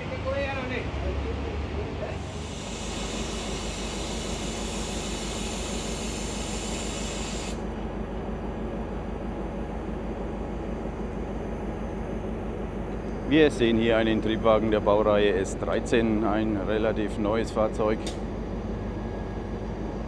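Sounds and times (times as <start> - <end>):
diesel train engine running: 0.0 - 20.0.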